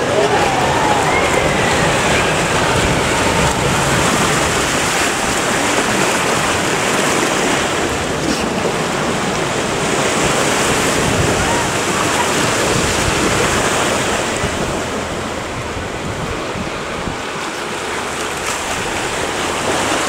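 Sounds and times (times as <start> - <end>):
white water rushing: 0.0 - 20.0.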